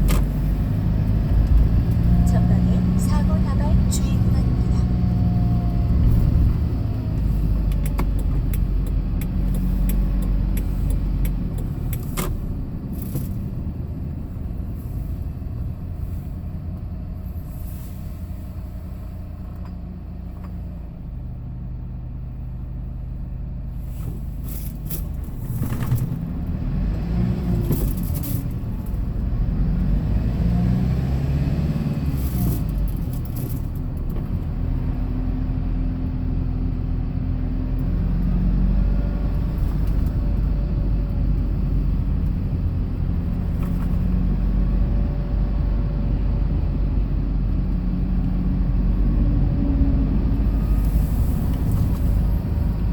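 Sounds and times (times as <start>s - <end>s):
truck engine and road rumble: 0.0s - 52.9s.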